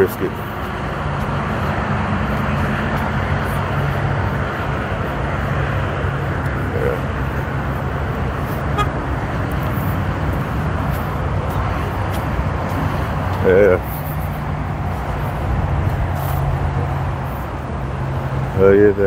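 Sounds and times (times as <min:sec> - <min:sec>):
low engine-like hum: 0:00.0 - 0:19.0
traffic noise: 0:00.0 - 0:19.0.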